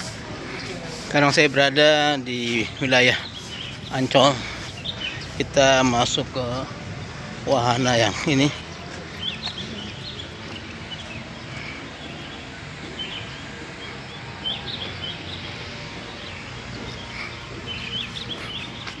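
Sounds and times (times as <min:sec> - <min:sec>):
outdoor background noise: 0:00.0 - 0:19.0
high chirping animal calls: 0:02.4 - 0:06.6, 0:07.8 - 0:19.0.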